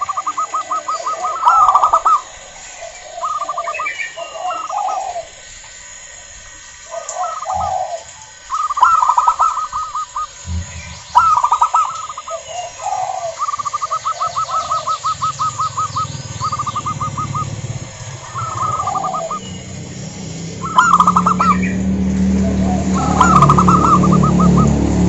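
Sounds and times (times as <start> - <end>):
small birds chirping: 0.0 - 24.9
doves calling: 0.0 - 25.0
low steady hum: 0.0 - 25.0.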